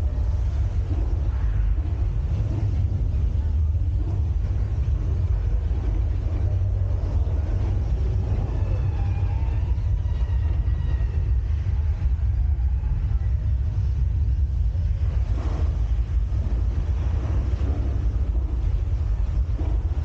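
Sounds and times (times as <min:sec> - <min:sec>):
steady deep rumble: 0:00.0 - 0:20.0.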